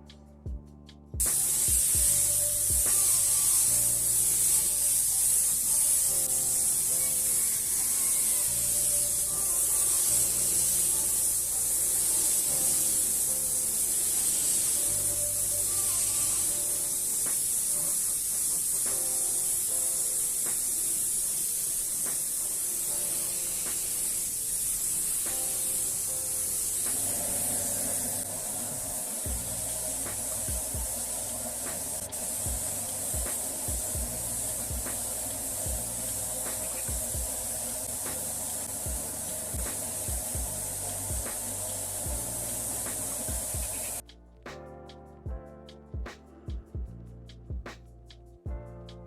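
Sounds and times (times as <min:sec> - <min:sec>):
background music with bass: 0:00.0 - 0:20.6, 0:22.9 - 0:49.0
paint spraying hiss: 0:01.2 - 0:45.0.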